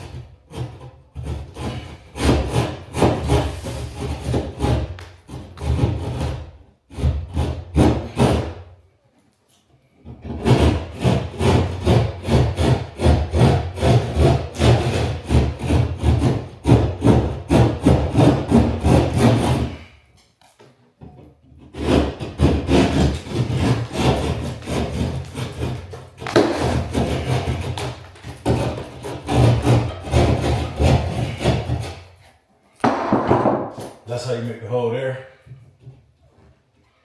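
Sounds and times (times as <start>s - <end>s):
hand saw rasping through drywall: 0.0s - 8.8s, 10.0s - 20.4s, 21.0s - 32.9s.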